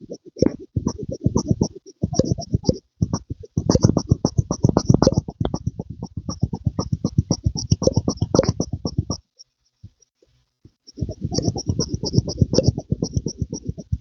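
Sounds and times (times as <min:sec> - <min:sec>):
soft pumping with clicks: 0:00.0 - 0:14.0.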